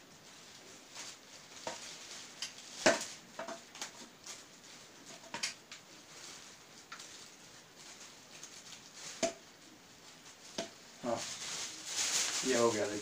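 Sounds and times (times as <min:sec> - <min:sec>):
paper crinkling: 0:00.1 - 0:13.0.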